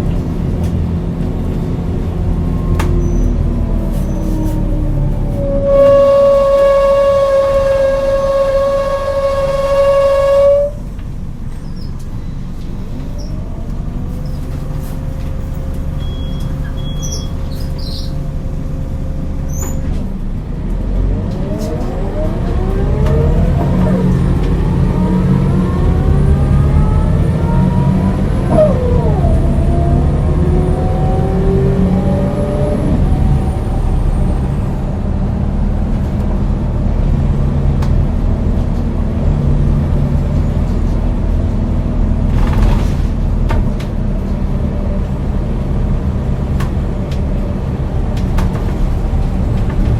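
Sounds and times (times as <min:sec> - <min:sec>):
diesel bus engine running: 0:00.0 - 0:49.9.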